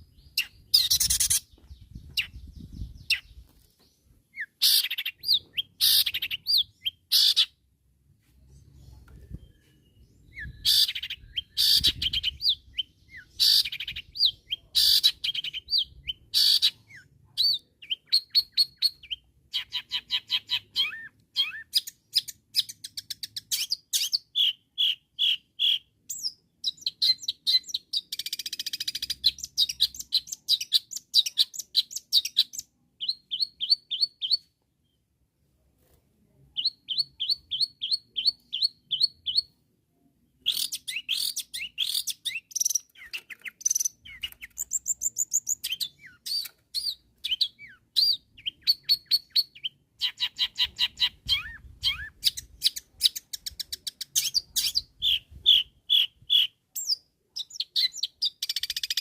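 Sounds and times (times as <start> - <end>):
bird singing chirps and trills: 0.0 - 7.6, 8.6 - 35.0, 40.4 - 59.0.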